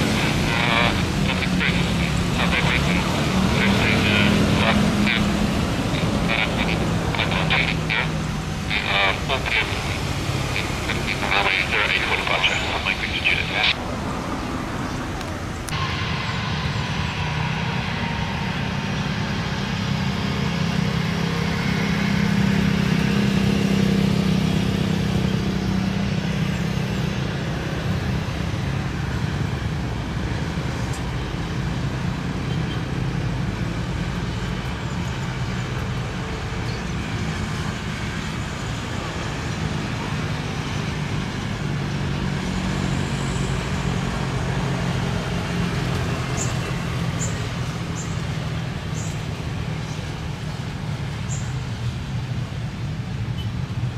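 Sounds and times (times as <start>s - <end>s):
vehicle engine rumble: 0.0s - 53.9s.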